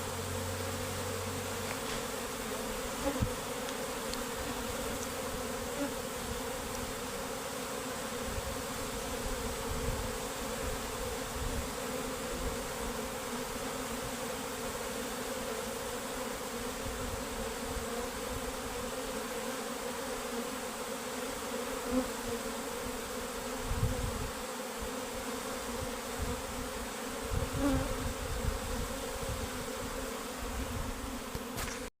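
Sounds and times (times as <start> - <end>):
bee swarm buzzing: 0.0 - 31.9.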